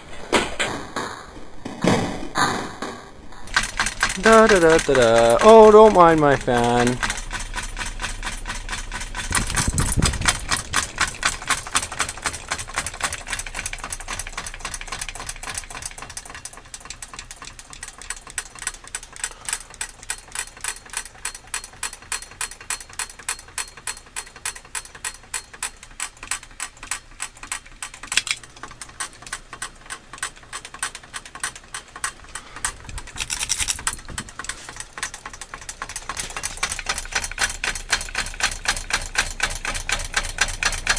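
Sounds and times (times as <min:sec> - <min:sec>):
ceiling fan rattling: 0:00.0 - 0:40.9.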